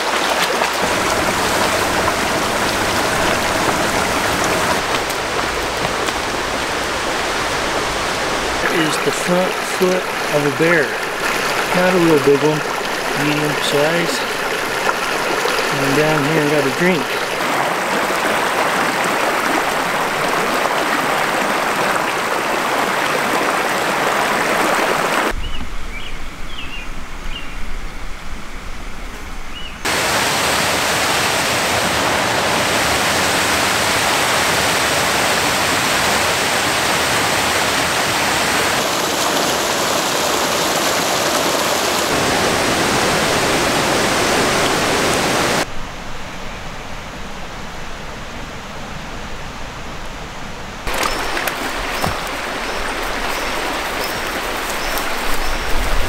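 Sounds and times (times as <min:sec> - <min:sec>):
creek rushing over rocks: 0:00.0 - 0:25.4, 0:29.8 - 0:45.7, 0:50.8 - 0:56.0.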